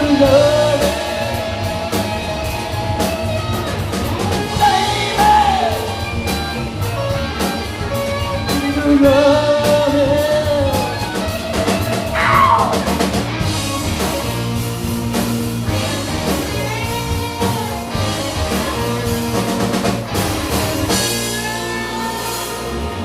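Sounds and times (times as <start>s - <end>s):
bass guitar: 0.0s - 23.0s
drum kit: 0.0s - 23.0s
electric guitar: 0.0s - 23.0s.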